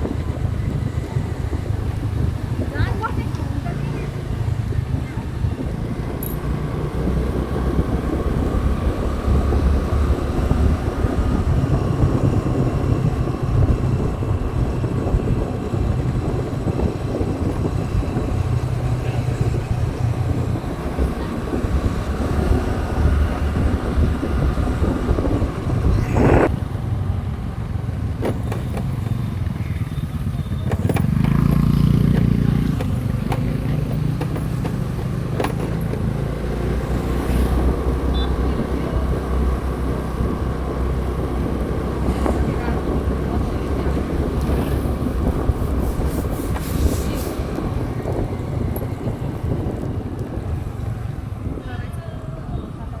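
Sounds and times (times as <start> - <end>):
motorcycle engine rumble: 0.0 - 53.0
wind noise on microphone: 0.0 - 53.0.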